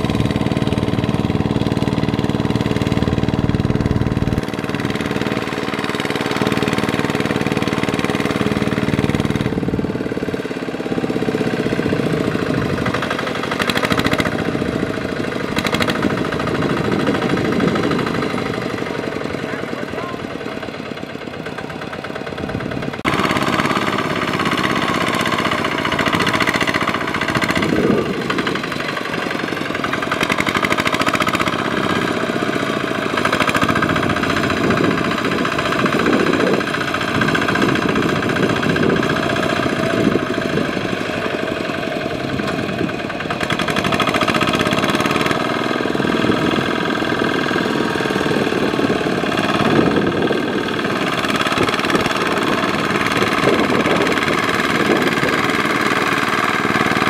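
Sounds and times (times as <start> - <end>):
diesel tractor engine under load: 0.0 - 57.0.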